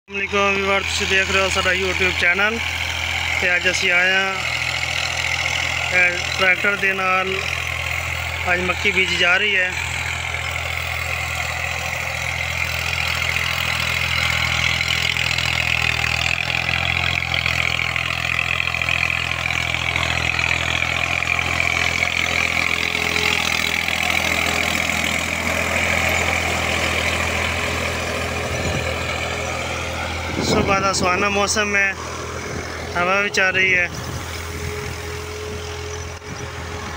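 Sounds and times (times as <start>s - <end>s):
tractor engine droning: 0.0s - 36.9s.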